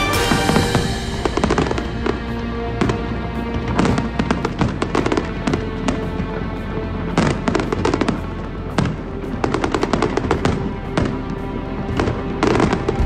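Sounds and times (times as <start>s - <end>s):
fireworks cracking: 0.0s - 13.0s
music playing: 0.0s - 13.0s.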